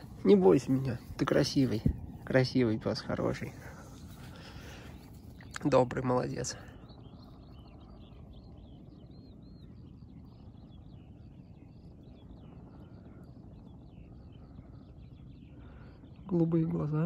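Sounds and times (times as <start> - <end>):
low background hum: 0.0 - 17.0
songbirds chirping and singing: 0.0 - 17.0.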